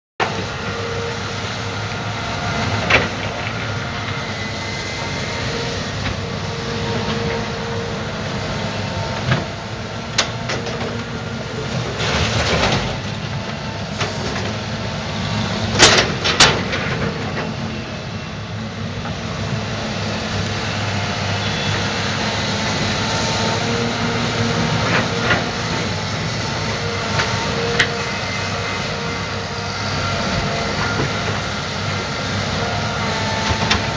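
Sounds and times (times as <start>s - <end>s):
excavator engine and hydraulics: 0.2s - 33.9s.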